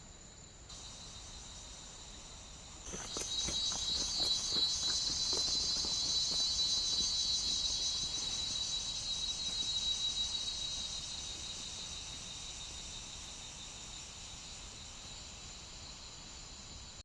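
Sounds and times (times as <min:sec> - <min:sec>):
insects chirring: 0:00.2 - 0:17.0.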